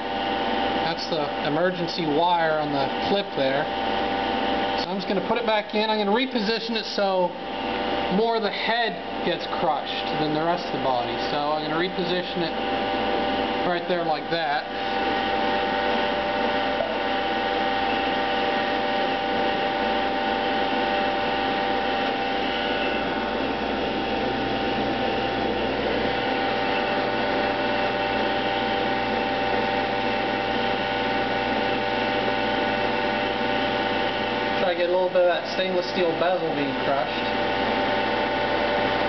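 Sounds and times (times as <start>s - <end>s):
hydraulic machine humming: 0.0s - 39.0s.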